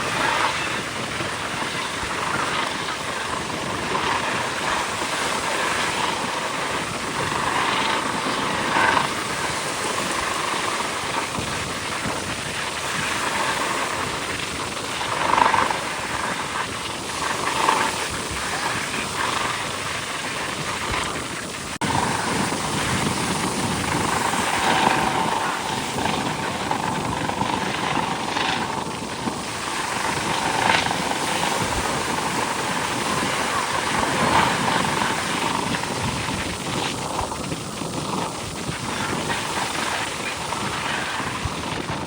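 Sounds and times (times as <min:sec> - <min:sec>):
distant aircraft noise: 0:00.0 - 0:42.0.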